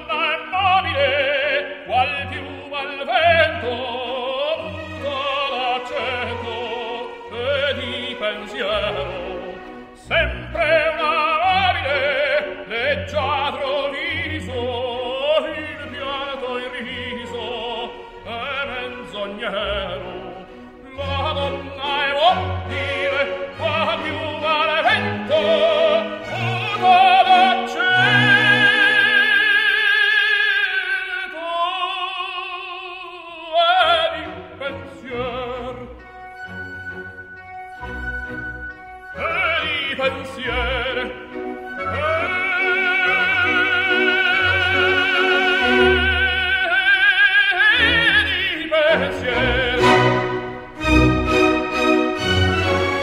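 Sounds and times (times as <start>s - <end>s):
orchestral accompaniment: 0.0s - 31.7s, 33.4s - 53.0s
operatic singing with vibrato: 0.0s - 53.0s.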